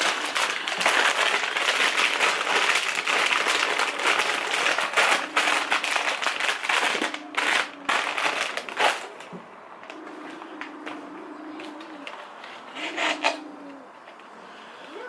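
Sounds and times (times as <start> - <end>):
plastic bags rustling: 0.0 - 14.2.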